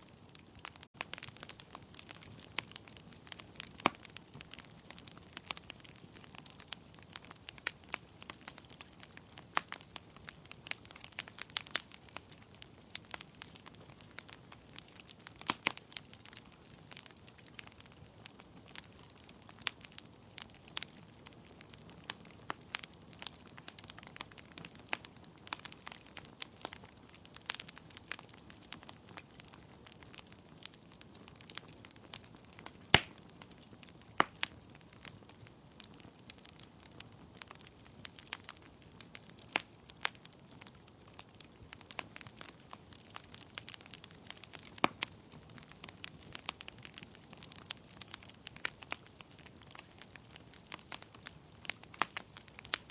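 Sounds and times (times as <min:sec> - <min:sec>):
logs crackling and popping: 0:00.0 - 0:52.9.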